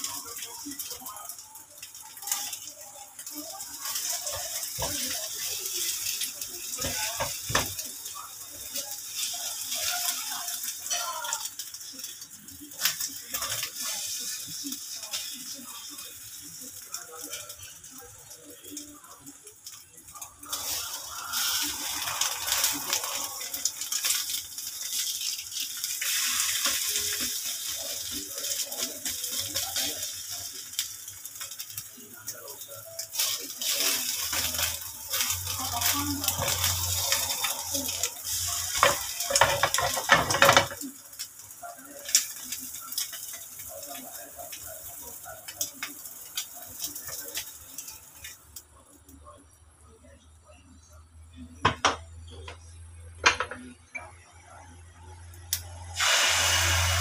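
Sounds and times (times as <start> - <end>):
oil sizzling in a frying pan: 0.0 - 49.2, 52.9 - 57.0.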